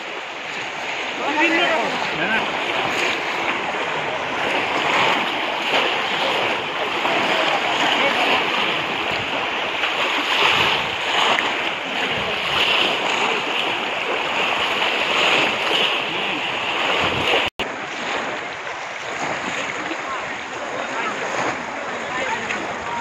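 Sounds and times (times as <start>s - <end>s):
indistinct crowd voices: 0.0s - 23.0s
water splashing and sloshing: 0.0s - 23.0s.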